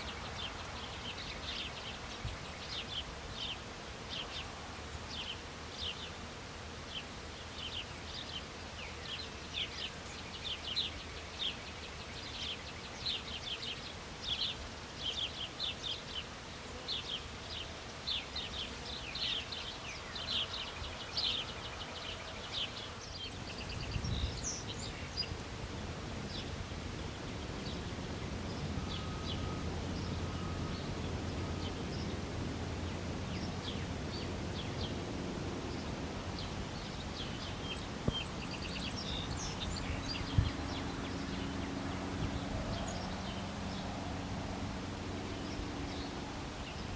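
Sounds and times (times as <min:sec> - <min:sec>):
songbirds chirping: 0:00.0 - 0:46.9.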